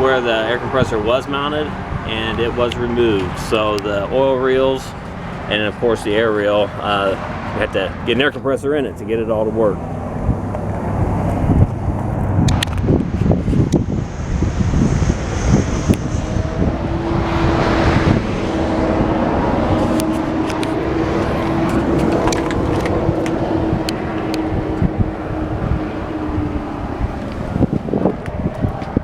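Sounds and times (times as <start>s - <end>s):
motor vehicle running: 0.0s - 29.0s.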